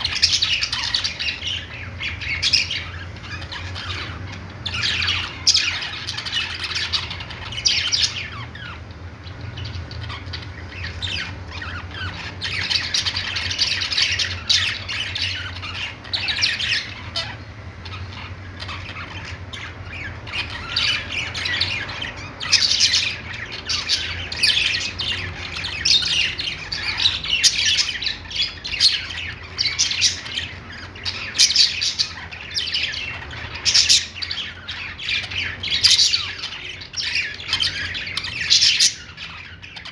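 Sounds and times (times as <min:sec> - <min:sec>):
budgies chattering: 0:00.0 - 0:39.9.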